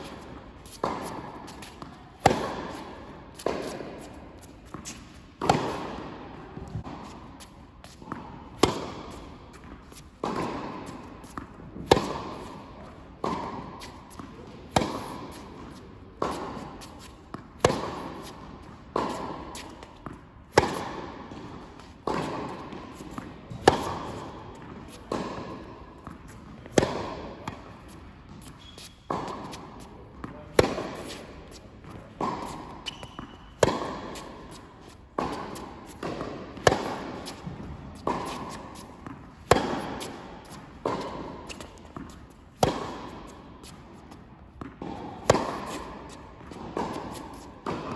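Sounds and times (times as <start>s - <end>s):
tennis ball hit by racket: 0.0s - 47.9s.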